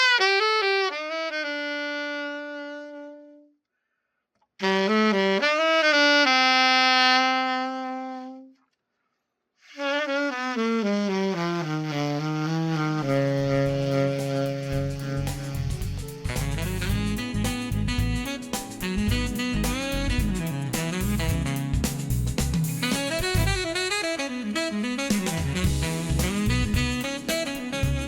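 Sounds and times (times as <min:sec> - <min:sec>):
alto saxophone playing: 0:00.0 - 0:03.6, 0:04.6 - 0:08.6, 0:09.7 - 0:28.0.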